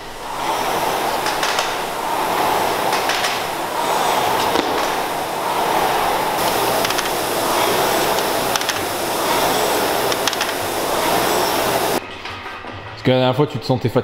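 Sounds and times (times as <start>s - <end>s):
rowing machine flywheel whirring: 0.0s - 12.0s.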